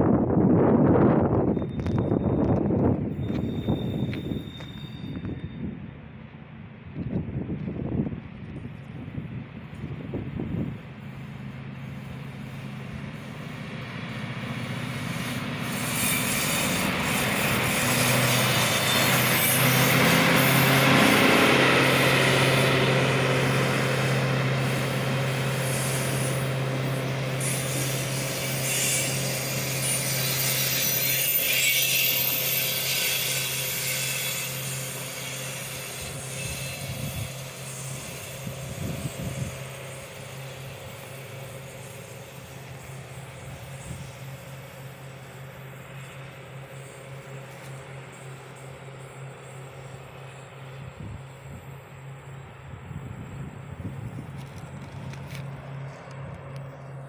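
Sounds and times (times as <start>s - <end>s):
train engine hum: 0.0s - 57.0s
train wheels on rails: 0.1s - 57.0s.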